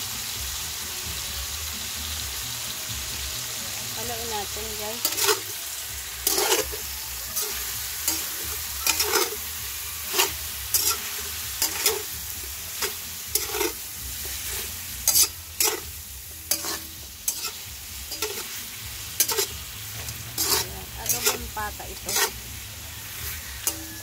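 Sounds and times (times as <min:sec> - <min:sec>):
meat sizzling in a pan: 0:00.0 - 0:24.0
metal spatula scraping a pan: 0:04.1 - 0:24.0.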